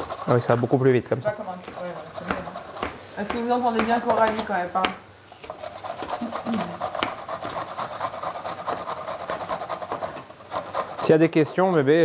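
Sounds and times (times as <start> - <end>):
carrots grated on box grater: 0.0 - 4.5, 5.6 - 11.3.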